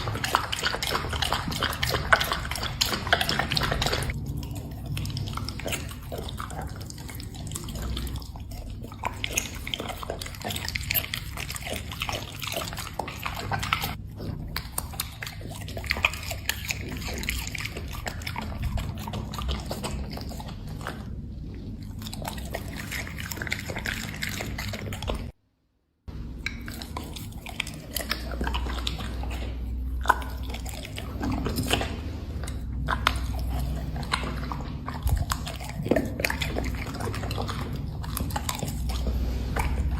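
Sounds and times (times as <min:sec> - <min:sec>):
dog chewing food: 0:00.0 - 0:25.4, 0:26.2 - 0:39.9.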